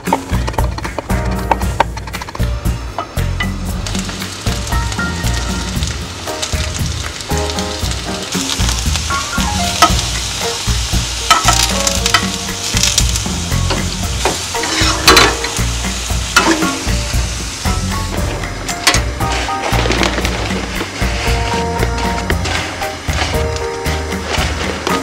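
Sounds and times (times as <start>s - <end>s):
vegetables sizzling in oil: 1.6s - 25.0s.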